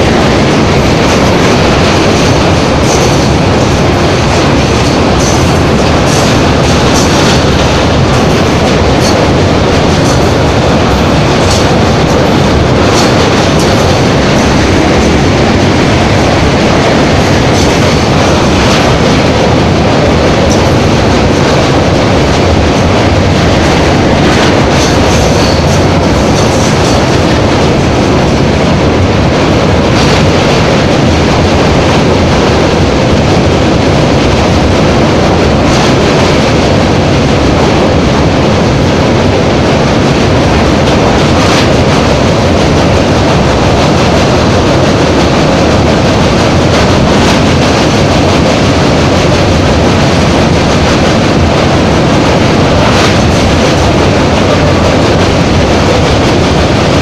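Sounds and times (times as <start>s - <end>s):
train rumbling over bridge: 0.0s - 57.0s
train wheels clattering on rails: 0.0s - 57.0s.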